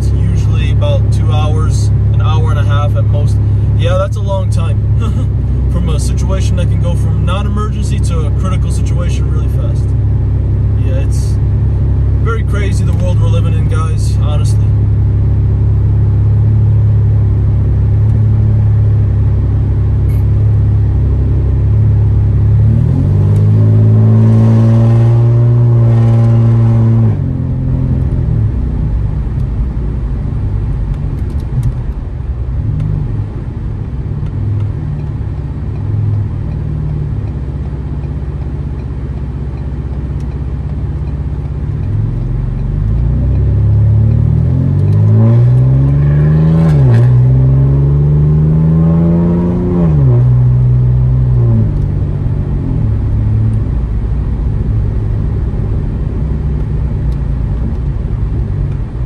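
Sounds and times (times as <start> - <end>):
car exhaust revving: 0.0 - 59.0.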